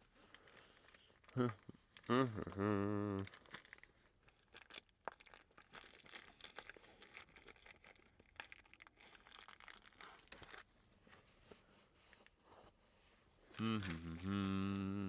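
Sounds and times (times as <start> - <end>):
crinkling and rustling: 0.0 - 2.6, 3.2 - 14.3.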